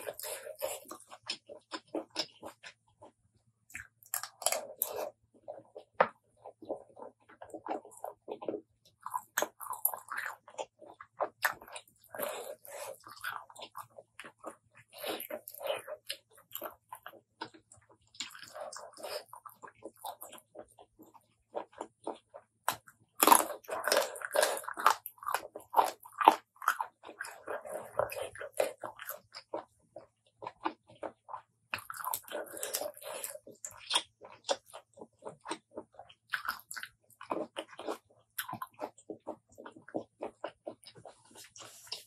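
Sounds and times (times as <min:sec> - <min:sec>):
crunching and chewing food: 0:00.0 - 0:42.0.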